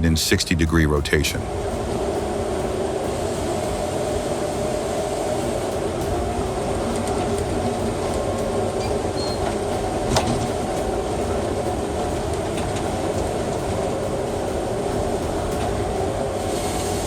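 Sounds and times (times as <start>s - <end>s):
heavy machine engine and hydraulics: 0.0s - 17.0s.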